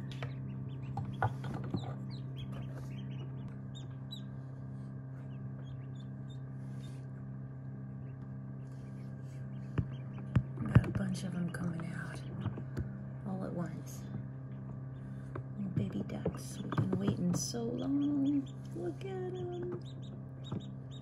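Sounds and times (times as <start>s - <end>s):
ducklings peeping: 0.0s - 7.2s, 7.9s - 14.0s, 14.9s - 21.0s
incubator hum: 0.0s - 21.0s.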